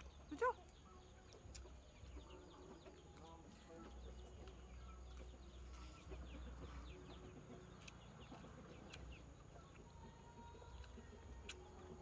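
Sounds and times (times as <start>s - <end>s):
chickens peeping: 0.0s - 12.0s.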